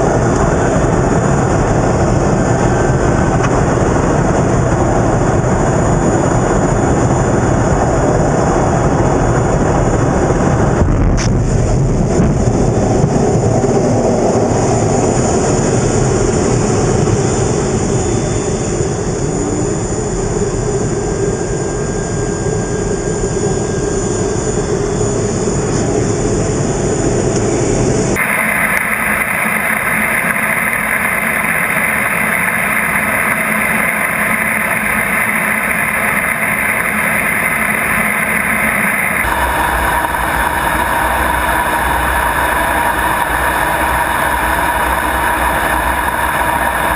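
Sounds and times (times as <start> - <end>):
high whine: 0.0 - 46.9
jet engines roaring: 0.0 - 46.9.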